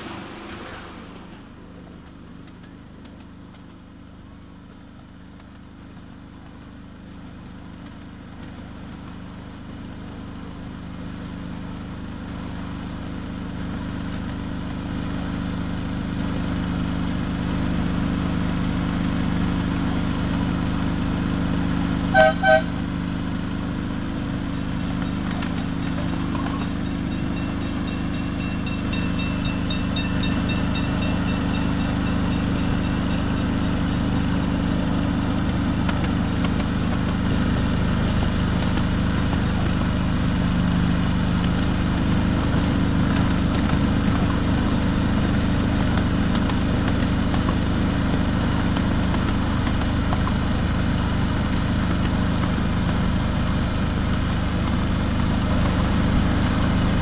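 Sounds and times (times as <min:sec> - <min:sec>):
locomotive engine droning: 0:00.0 - 0:57.0.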